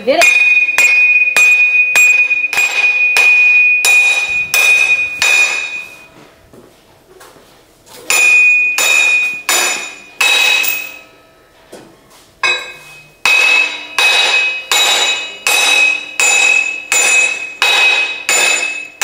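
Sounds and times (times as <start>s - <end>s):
hammer striking metal: 0.1s - 6.1s, 8.0s - 11.2s, 12.4s - 19.0s.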